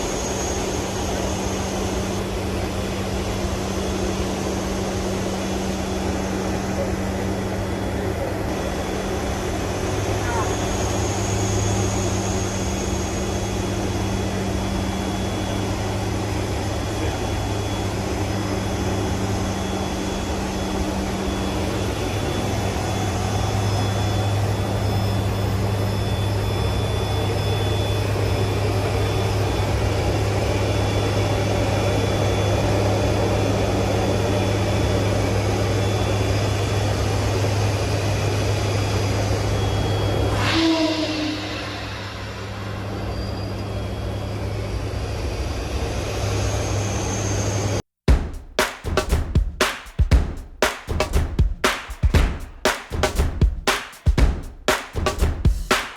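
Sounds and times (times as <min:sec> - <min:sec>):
turboprop engines droning: 0:00.0 - 0:53.6.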